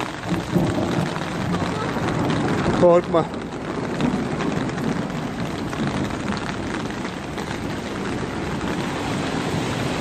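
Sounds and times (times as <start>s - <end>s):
floodwater flowing through street: 0.0s - 10.0s
heavy rain: 0.0s - 10.0s.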